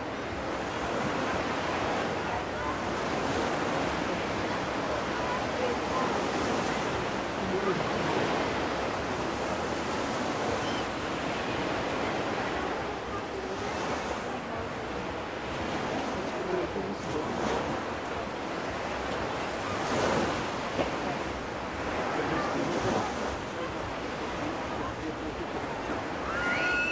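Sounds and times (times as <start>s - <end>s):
waves washing onto beach: 0.0s - 26.9s.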